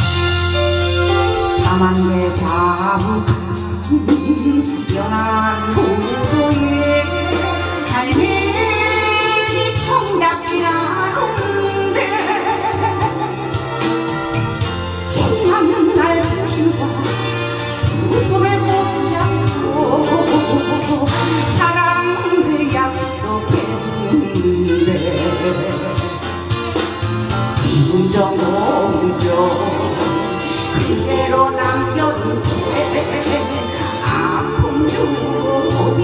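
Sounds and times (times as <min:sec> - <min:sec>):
instrumental backing music: 0:00.0 - 0:36.0
woman singing into microphone: 0:01.4 - 0:26.4, 0:27.6 - 0:36.0.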